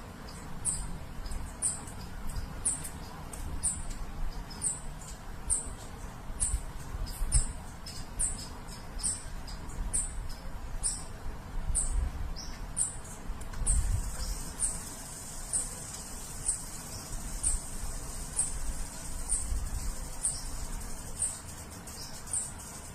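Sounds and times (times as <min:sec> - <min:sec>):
lower bird chirps: 0:00.0 - 0:22.9
small bird chirping: 0:00.0 - 0:22.9.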